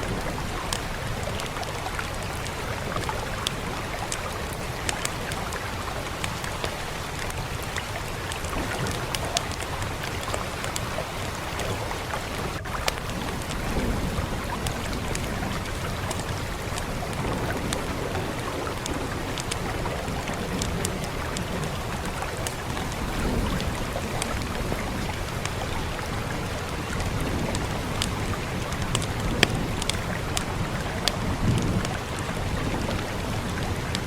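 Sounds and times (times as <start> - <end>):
fire crackling and popping: 0.0 - 34.0
steady rain: 0.0 - 34.0.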